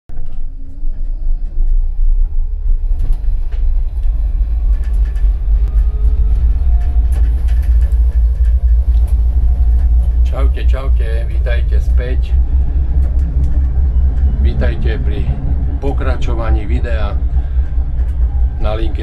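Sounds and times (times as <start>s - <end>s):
faint motor whine: 0.1s - 19.0s
tram rumbling on track: 0.1s - 19.0s
wheels clicking: 2.8s - 19.0s.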